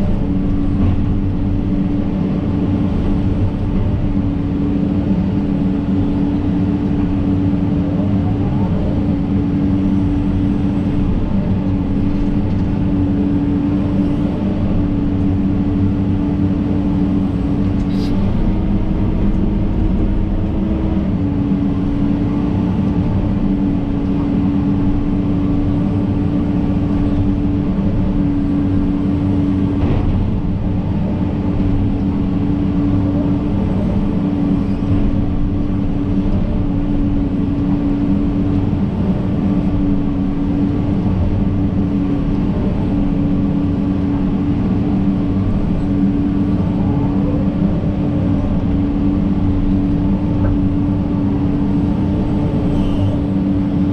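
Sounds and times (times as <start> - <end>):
excavator diesel engine droning: 0.0 - 53.9.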